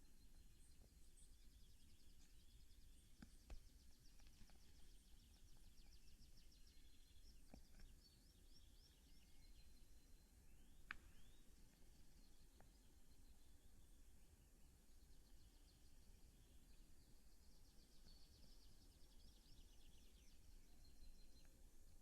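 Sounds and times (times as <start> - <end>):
faint songbird song: 0.0 - 22.0.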